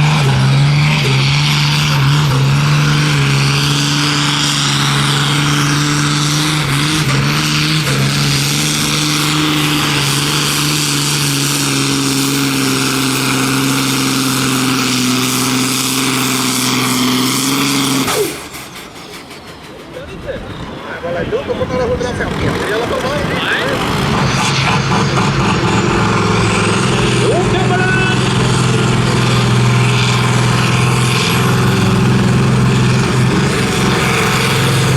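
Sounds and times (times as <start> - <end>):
tractor engine revving high: 0.0 - 34.9.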